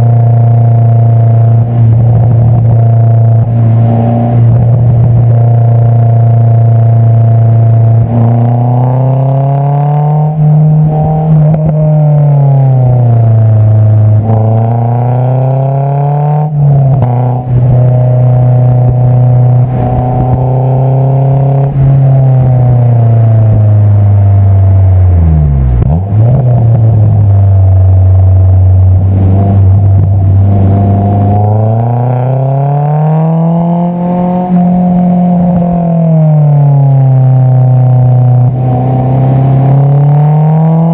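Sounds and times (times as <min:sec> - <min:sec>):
car engine revving through exhaust: 0:00.0 - 0:40.9.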